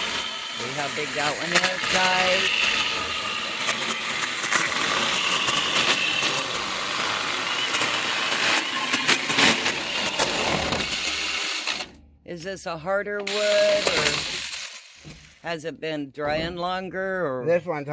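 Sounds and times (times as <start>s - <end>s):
electric chainsaw cutting log: 0.0s - 12.1s, 13.2s - 15.4s.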